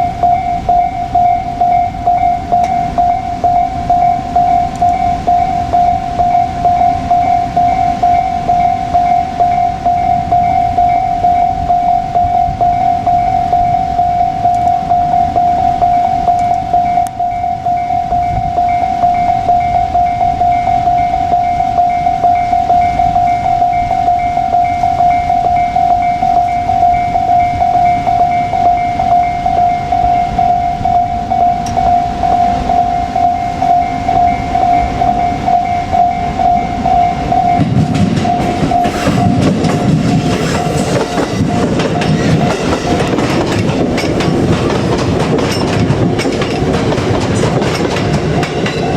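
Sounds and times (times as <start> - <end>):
level-crossing alarm ringing: 0.0 - 48.9
train rumble and wheel clatter: 0.0 - 48.9.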